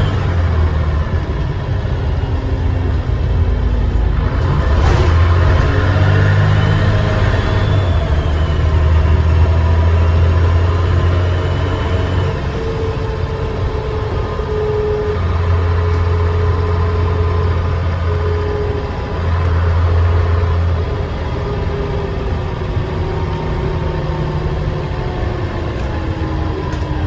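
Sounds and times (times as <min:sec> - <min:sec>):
bus engine droning: 0:00.0 - 0:27.0
faint turbo whistle: 0:03.9 - 0:27.0.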